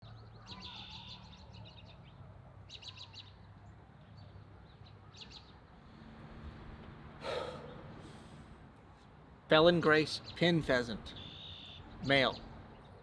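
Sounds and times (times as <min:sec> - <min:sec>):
small birds chirping: 0:00.0 - 0:06.0, 0:07.2 - 0:13.0.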